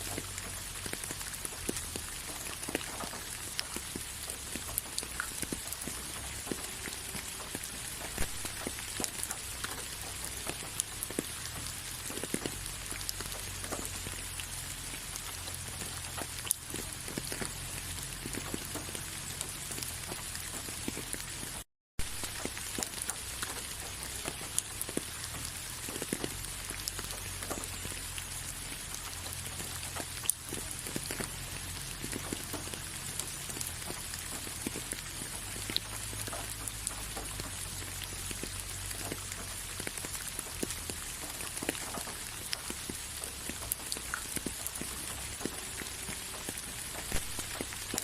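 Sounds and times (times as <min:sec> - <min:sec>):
raindrops ticking close by: 0:00.0 - 0:48.0
steady rain hiss: 0:00.0 - 0:48.0.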